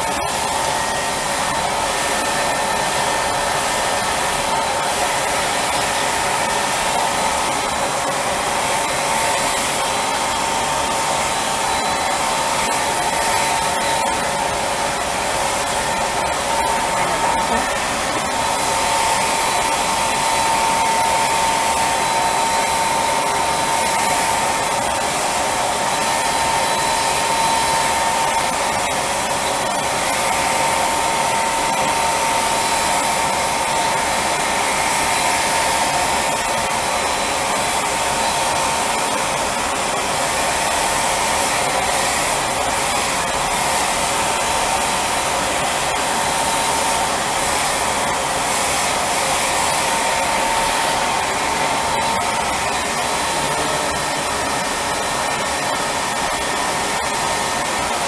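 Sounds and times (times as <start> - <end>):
spray machine air rush and whine: 0.0 - 58.0.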